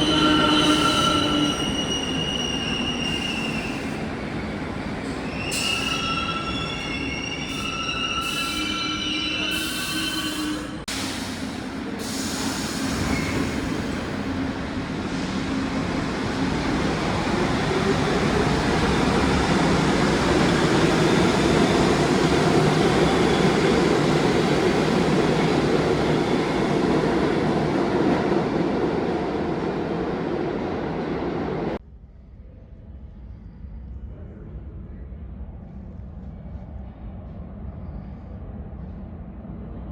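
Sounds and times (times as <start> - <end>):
subway train rumbling on rails: 0.0 - 39.9.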